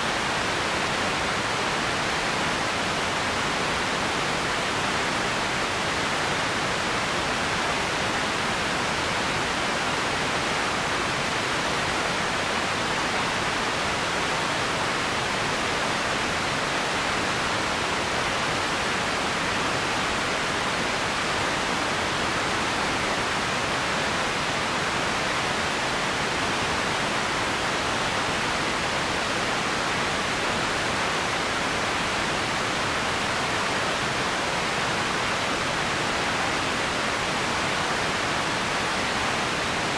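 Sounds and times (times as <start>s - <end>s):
even ambient hiss: 0.0s - 39.9s.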